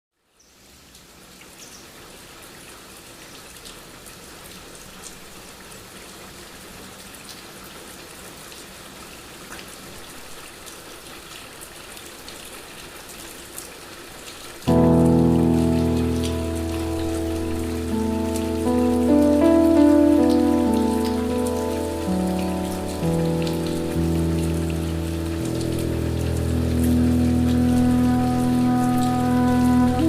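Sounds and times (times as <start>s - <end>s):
rain falling: 0.6s - 30.0s.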